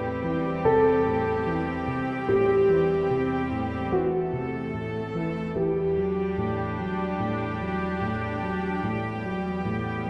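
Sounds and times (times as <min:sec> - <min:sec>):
slow sad music: 0:00.0 - 0:10.0.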